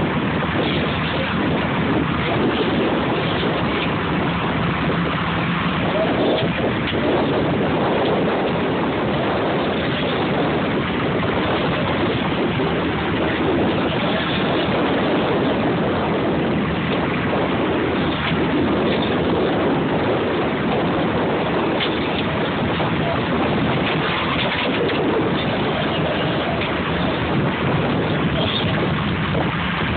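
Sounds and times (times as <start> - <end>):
water washing against boat: 0.0 - 29.9
wind on microphone: 0.0 - 29.9.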